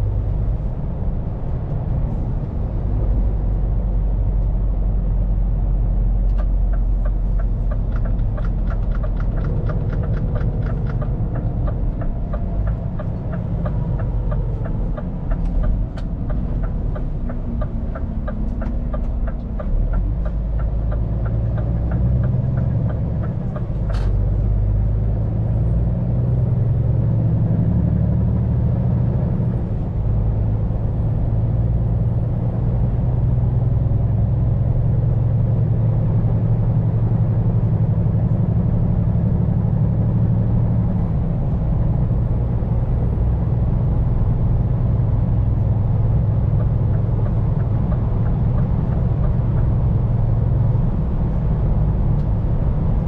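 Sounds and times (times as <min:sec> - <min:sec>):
truck diesel engine running: 0:00.0 - 0:27.9, 0:34.3 - 0:53.0
road noise: 0:00.0 - 0:53.0.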